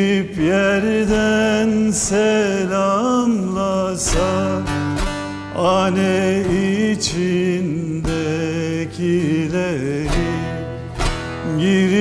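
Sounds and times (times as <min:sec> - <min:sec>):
long-necked lute: 0:00.0 - 0:12.0
man singing slow song: 0:00.0 - 0:12.0.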